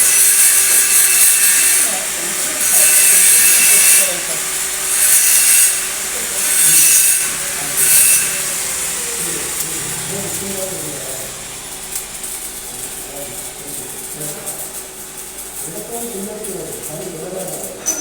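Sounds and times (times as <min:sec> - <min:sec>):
hand tool rasping on metal: 0:00.0 - 0:18.0.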